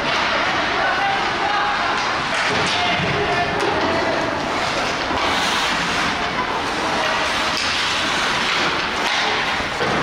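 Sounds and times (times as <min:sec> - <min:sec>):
skates scraping ice: 0:00.1 - 0:10.0.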